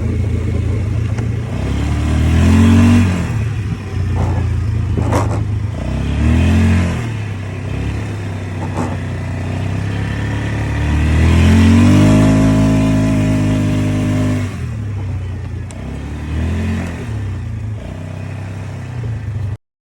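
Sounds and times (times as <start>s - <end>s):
engine revving and idling: 0.0s - 19.6s.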